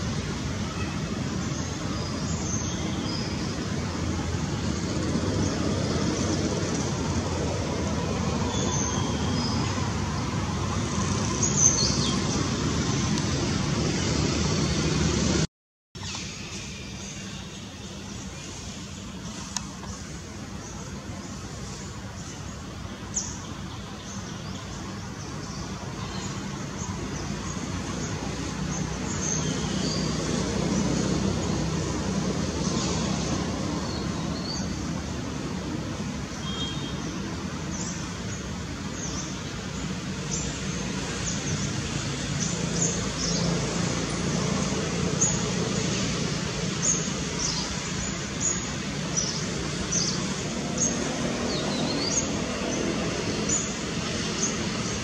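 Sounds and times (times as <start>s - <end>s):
road traffic noise: 0.0s - 55.0s
small birds chirping: 0.1s - 15.4s, 16.0s - 55.0s.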